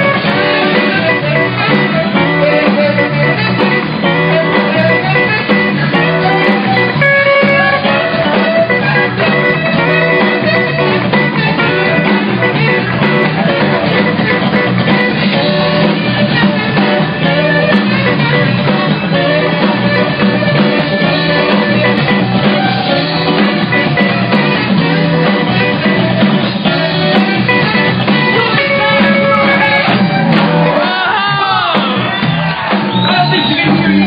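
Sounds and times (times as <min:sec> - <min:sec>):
live rock band with horns: 0:00.0 - 0:34.0.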